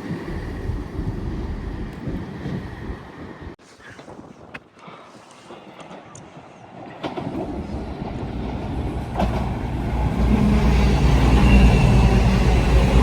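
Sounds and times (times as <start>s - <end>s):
train engine rumble: 0.0s - 3.6s, 5.5s - 13.0s.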